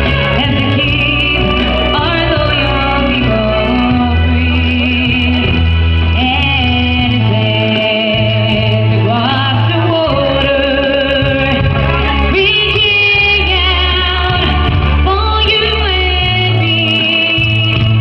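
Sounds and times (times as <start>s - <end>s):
musical accompaniment with bass: 0.0s - 18.0s
woman singing: 0.0s - 18.0s.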